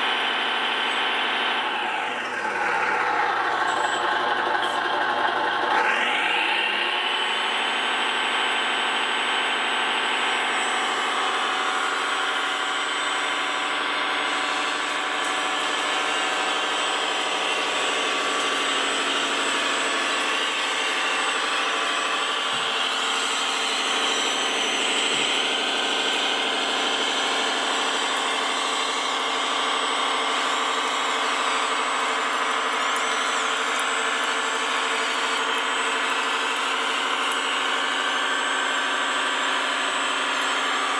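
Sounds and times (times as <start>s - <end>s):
model machine motor humming: 0.0s - 40.9s.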